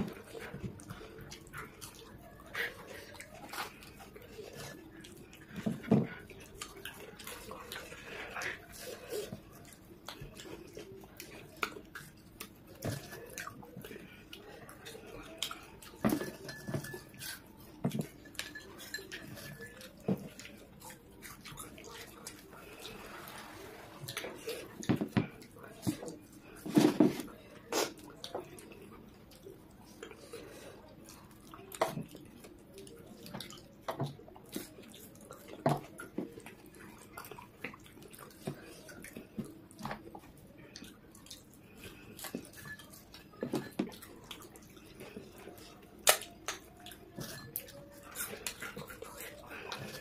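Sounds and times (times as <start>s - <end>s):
chewing and mouth sounds: 0.0s - 50.0s.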